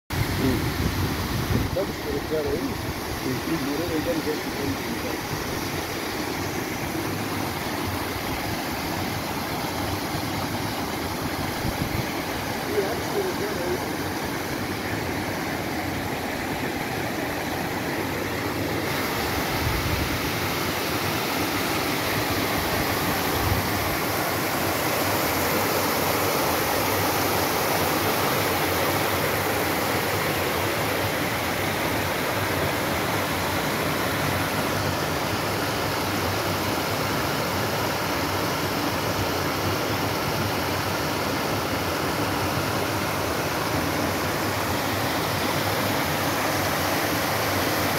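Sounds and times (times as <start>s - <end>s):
waterfall rushing: 0.1s - 47.9s.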